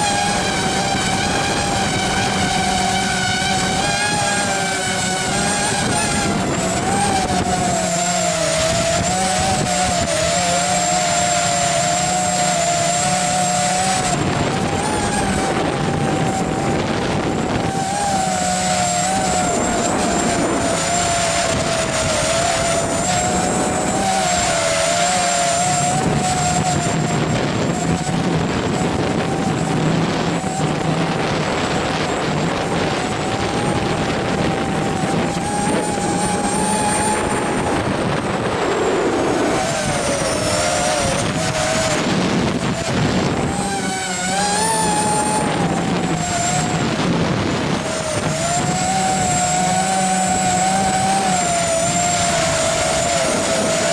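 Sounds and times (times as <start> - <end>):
drone motors whining: 0.0 - 53.9
wind buffeting microphone: 0.0 - 53.9.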